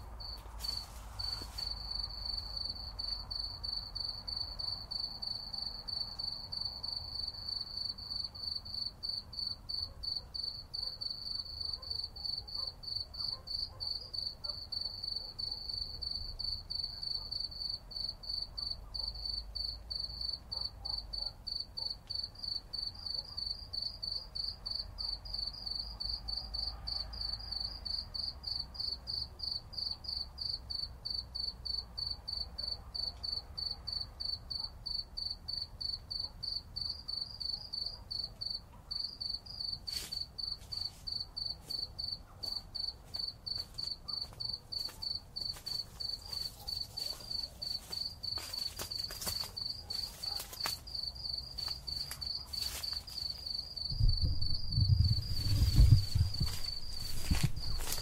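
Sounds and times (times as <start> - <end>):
insect chirping: 0.0 - 58.0.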